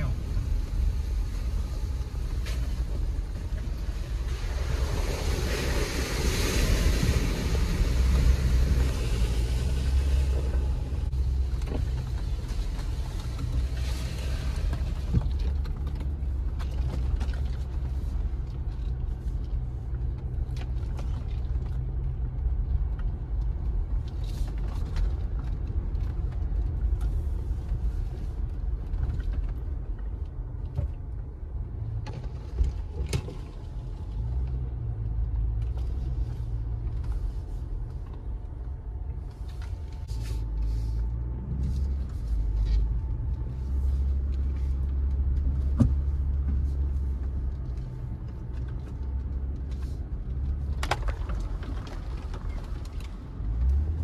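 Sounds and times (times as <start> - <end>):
engine and tyre rumble: 0.0 - 54.0
knocks and creaks: 9.6 - 54.0.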